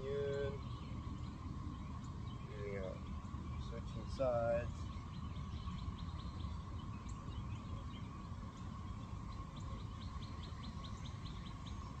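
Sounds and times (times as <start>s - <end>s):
faint steady hum: 0.0s - 12.0s
small bird chirping: 0.0s - 12.0s.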